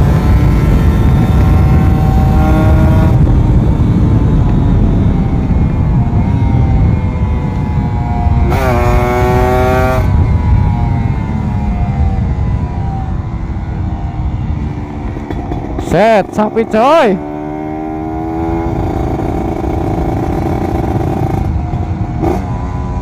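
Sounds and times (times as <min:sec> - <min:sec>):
motorcycle engine running: 0:00.0 - 0:23.0
wind rush: 0:00.0 - 0:23.0.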